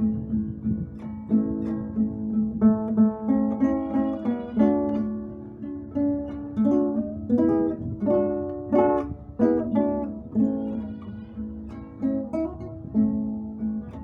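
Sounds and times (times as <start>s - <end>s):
acoustic guitar slow piece: 0.0s - 14.0s.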